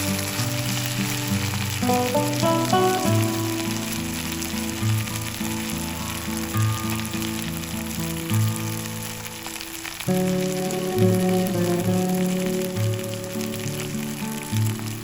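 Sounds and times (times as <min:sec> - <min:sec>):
food sizzling in oil: 0:00.0 - 0:15.0
soft background music: 0:00.0 - 0:15.0.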